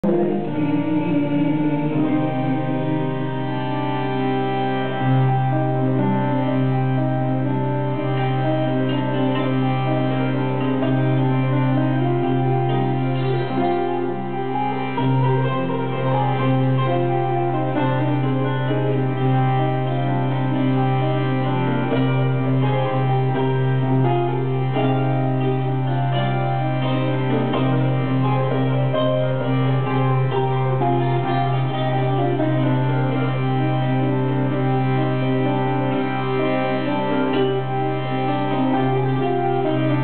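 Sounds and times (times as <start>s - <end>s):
harmonium drone: 0.0s - 40.0s
mandolin picking: 0.0s - 40.0s.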